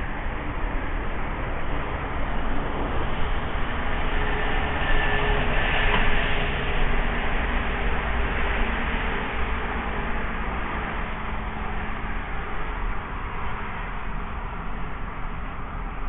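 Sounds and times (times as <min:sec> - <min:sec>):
faint steady whine: 0:00.0 - 0:16.0
industrial rumble and hiss: 0:00.0 - 0:16.0.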